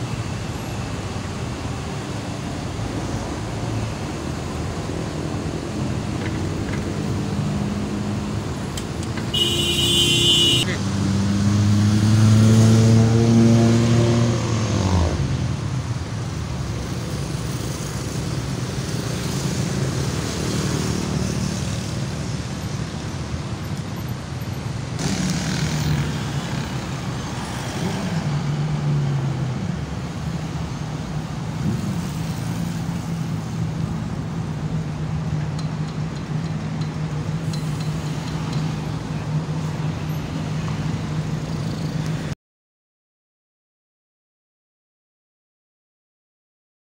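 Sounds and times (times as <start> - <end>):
cars and motorbikes passing: 0.0 - 42.4.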